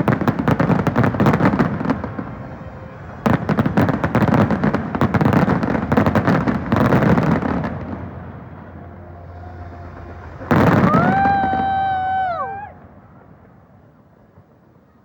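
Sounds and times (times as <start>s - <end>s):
fireworks bangs and crackles: 0.0s - 14.9s
low rumbling: 1.0s - 14.2s.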